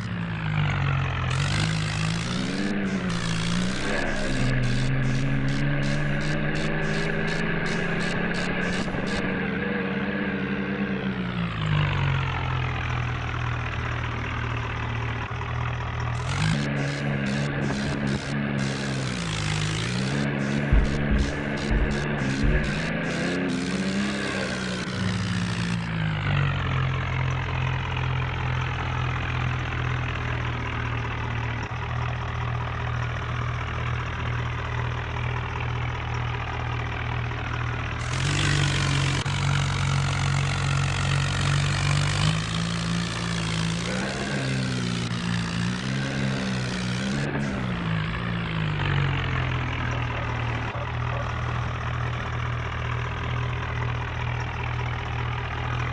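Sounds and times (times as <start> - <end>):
tractor diesel engine revving: 0.0 - 55.9.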